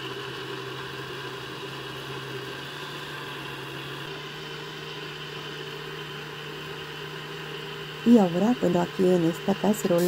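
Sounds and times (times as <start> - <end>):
blender motor running: 0.0 - 10.0.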